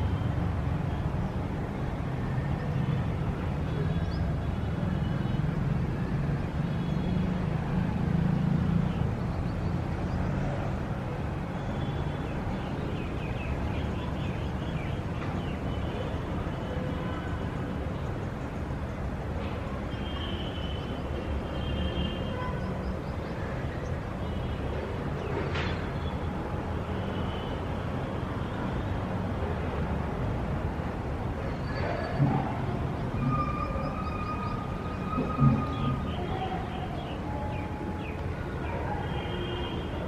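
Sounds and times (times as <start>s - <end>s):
city traffic rumble: 0.0s - 40.0s.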